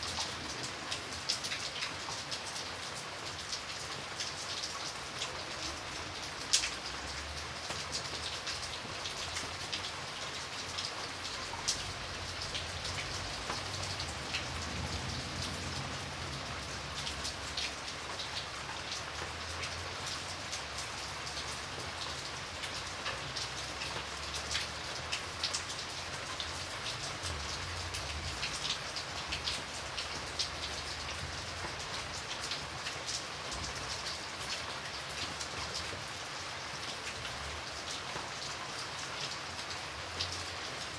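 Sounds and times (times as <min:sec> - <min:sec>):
light rain falling: 0:00.0 - 0:40.9
raindrops ticking: 0:00.0 - 0:40.9.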